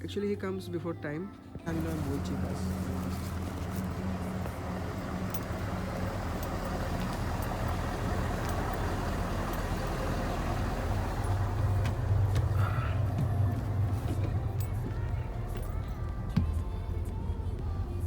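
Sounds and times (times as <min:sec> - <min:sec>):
bus engine humming: 0:00.0 - 0:18.0.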